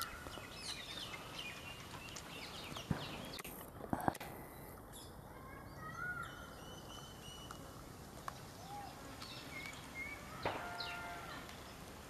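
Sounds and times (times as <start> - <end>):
birds chirping and whistling: 0.0 - 3.5, 4.4 - 7.6, 8.3 - 11.8.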